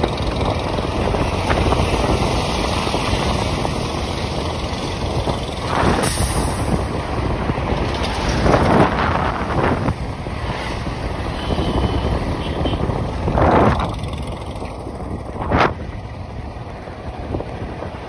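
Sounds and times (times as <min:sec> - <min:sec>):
passing traffic rush: 0:00.0 - 0:18.0
vehicle road rumble: 0:00.0 - 0:18.0
wind buffeting microphone: 0:00.0 - 0:18.0.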